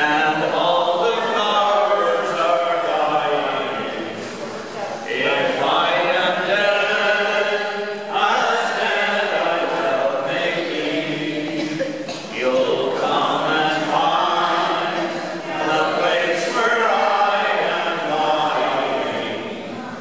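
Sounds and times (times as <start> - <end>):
group singing unaccompanied: 0.0 - 20.0.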